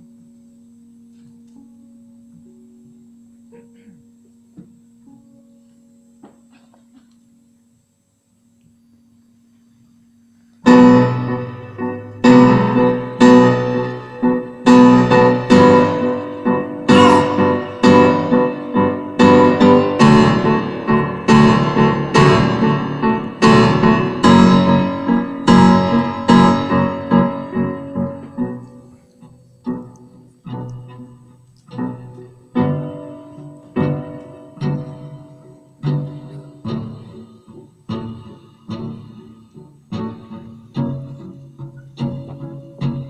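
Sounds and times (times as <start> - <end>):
grand piano chords: 0.0 - 43.0.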